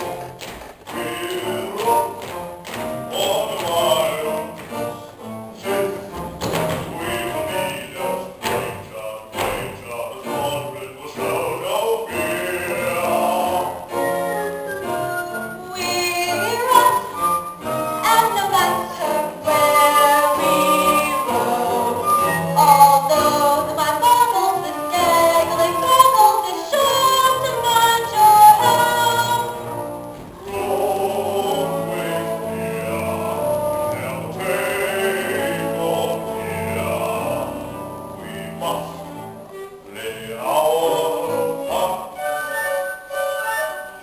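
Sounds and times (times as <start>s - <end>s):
people singing with instruments: 0.0s - 44.0s.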